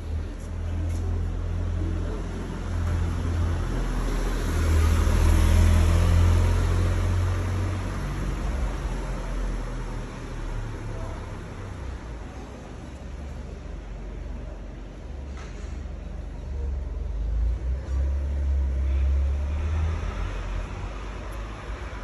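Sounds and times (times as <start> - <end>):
low street rumble: 0.0 - 22.0.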